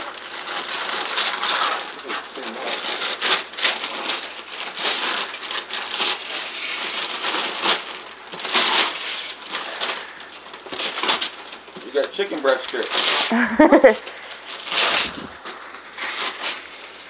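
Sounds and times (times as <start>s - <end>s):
wrapping paper tearing and crumpling: 0.0s - 17.0s.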